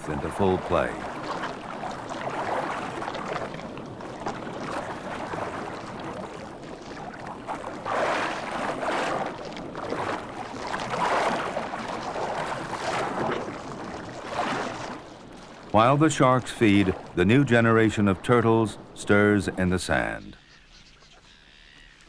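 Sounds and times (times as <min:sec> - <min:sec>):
water splashing and churning: 0:00.0 - 0:20.4.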